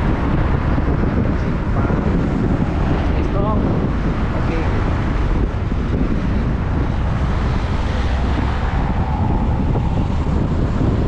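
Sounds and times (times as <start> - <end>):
highway traffic rumble: 0.0 - 11.0
wind buffeting microphone: 0.0 - 11.0.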